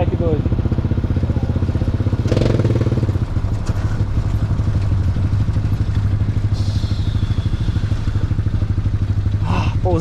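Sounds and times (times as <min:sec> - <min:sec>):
small engine running: 0:01.1 - 0:10.0.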